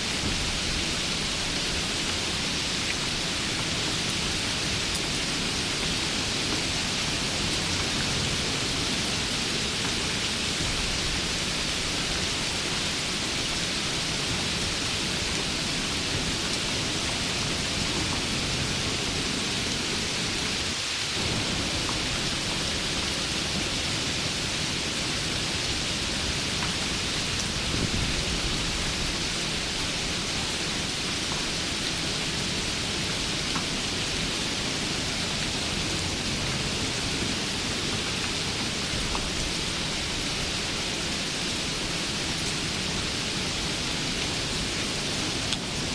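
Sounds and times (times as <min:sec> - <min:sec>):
rain hissing: 0:00.0 - 0:45.9.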